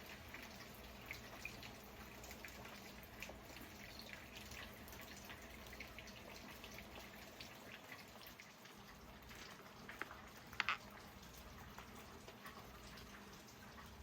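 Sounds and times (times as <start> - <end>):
rain dripping: 0.0 - 14.0.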